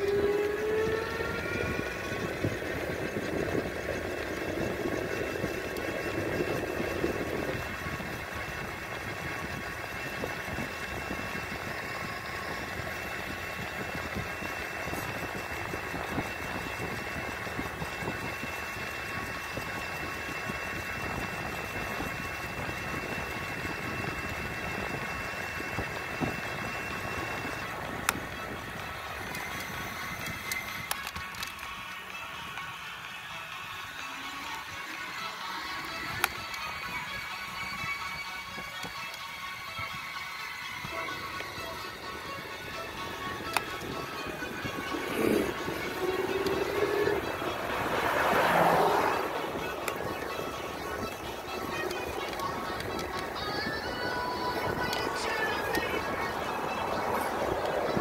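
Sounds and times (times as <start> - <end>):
road and wind noise: 0.0 - 58.0
vehicle motor whining: 0.0 - 58.0.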